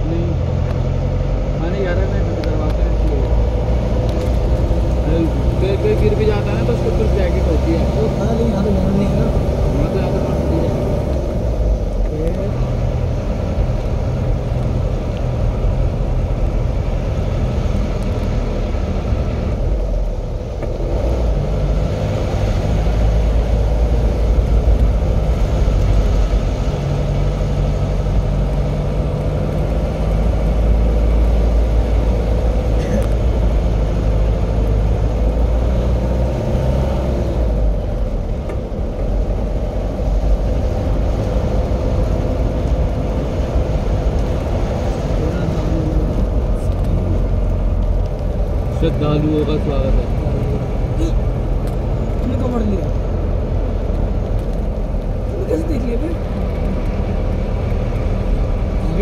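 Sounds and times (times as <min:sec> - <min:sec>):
road noise: 0:00.0 - 0:59.0
vehicle engine rumble: 0:00.0 - 0:59.0.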